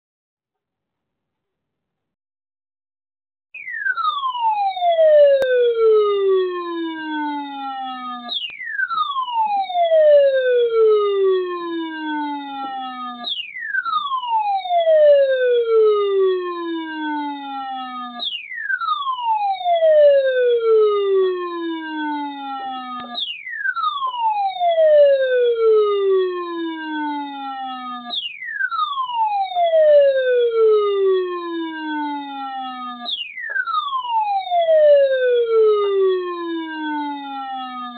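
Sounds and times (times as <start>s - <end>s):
siren-like tone gliding down: 3.6s - 37.9s.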